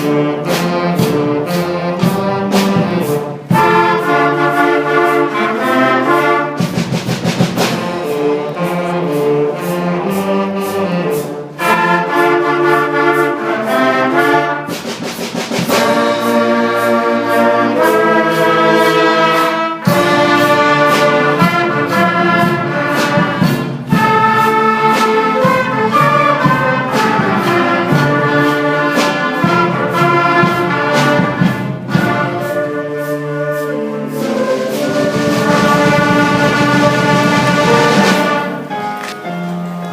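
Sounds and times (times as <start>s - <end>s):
brass chords: 0.0s - 39.9s
percussion strikes: 0.0s - 39.9s.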